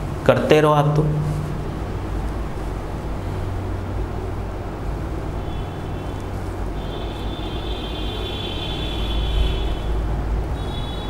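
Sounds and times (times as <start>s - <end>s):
noisy hiss: 0.0s - 11.0s.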